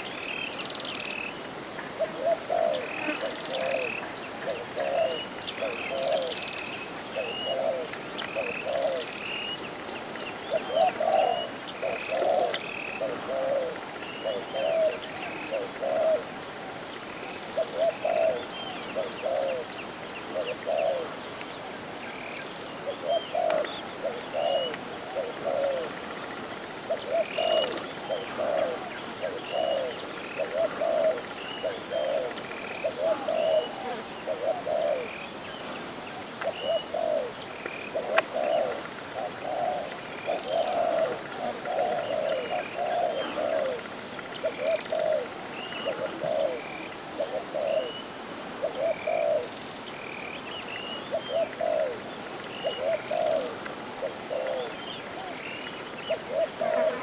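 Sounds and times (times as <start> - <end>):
doves cooing: 1.9 - 9.6, 10.4 - 16.8, 17.5 - 21.2, 22.8 - 49.7, 50.8 - 57.0.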